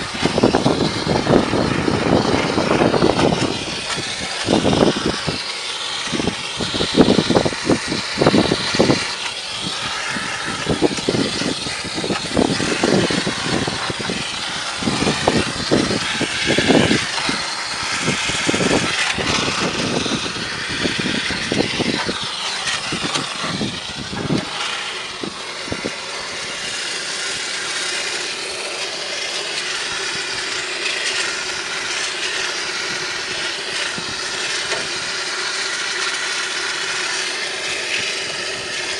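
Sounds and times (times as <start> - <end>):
cleaning equipment hissing: 0.0 - 38.9.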